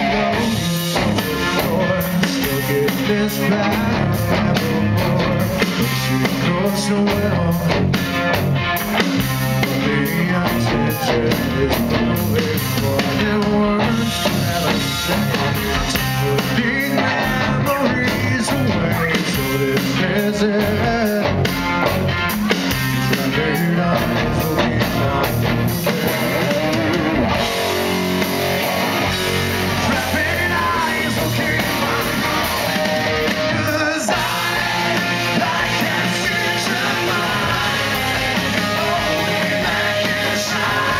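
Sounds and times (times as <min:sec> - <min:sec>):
man singing: 0:00.0 - 0:08.0, 0:09.5 - 0:21.5, 0:22.8 - 0:27.3, 0:29.5 - 0:40.9
live rock band playing: 0:00.0 - 0:40.9.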